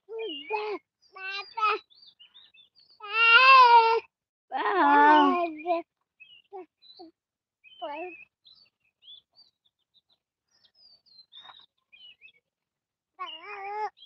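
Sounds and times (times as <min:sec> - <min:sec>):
small birds chirping: 0:00.0 - 0:04.0, 0:04.8 - 0:14.0.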